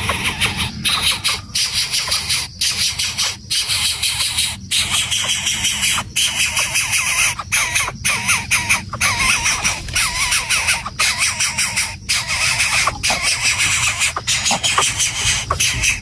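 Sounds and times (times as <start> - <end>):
bird squawking: 0.0 - 16.0
rapidly pulsing hiss: 0.0 - 16.0.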